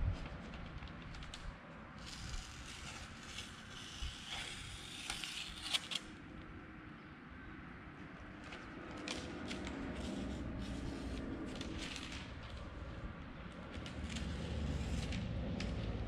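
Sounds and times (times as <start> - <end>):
paper rustling and crinkling: 0.1 - 6.1, 8.3 - 16.0.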